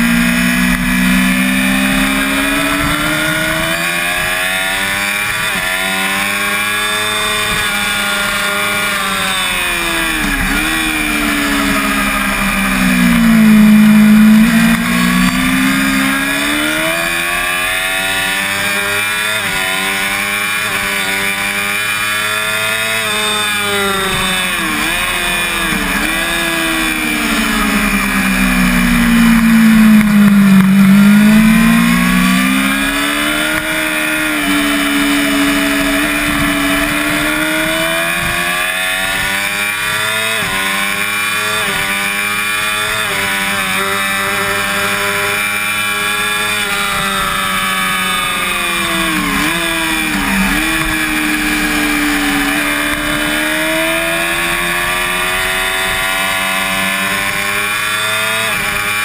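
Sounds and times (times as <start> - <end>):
motorcycle engine at race pace: 0.0 - 59.0.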